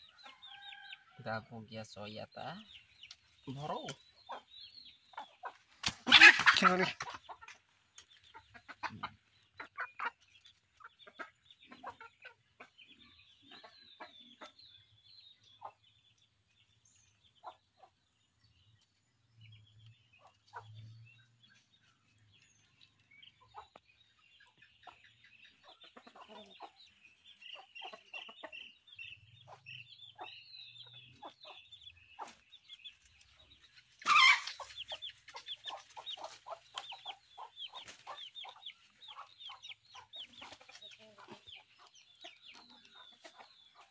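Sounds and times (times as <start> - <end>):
chickens clucking and chirping: 0.0 - 43.9.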